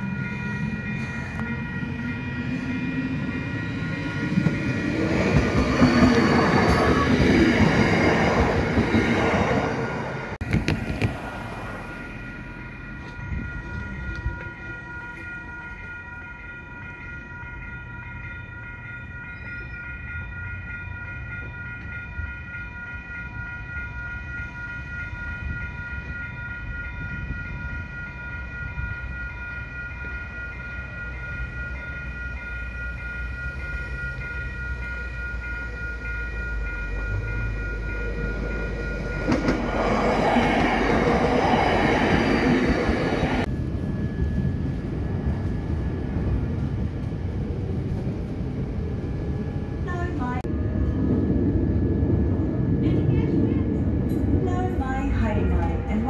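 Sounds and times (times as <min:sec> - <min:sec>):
level crossing warning bells: 0:00.0 - 0:10.4, 0:11.4 - 0:56.0
electric train passing: 0:00.0 - 0:56.0.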